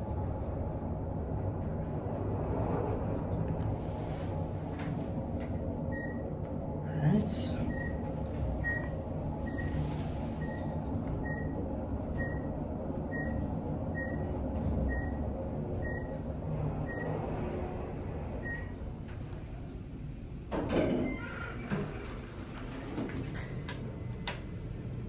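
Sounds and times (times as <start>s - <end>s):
elevator humming: 0.0s - 25.0s
elevator doors opening: 0.1s - 25.0s.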